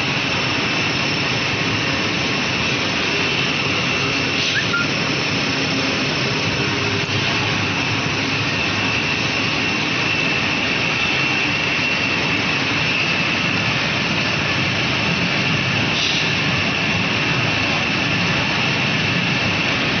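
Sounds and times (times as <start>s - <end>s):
high-pitched machine whine: 0.0s - 20.0s
steady machine noise: 0.0s - 20.0s.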